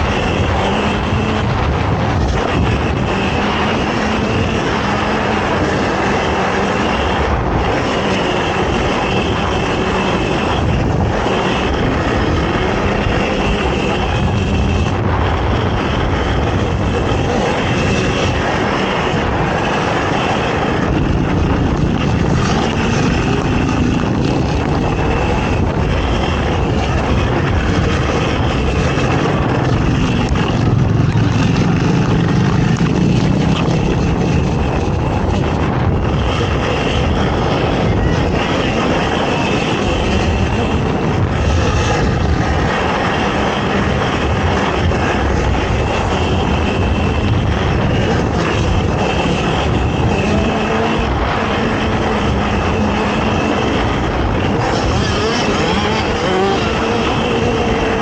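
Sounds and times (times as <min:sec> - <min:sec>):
quad engine running hard: 0:00.0 - 0:58.0.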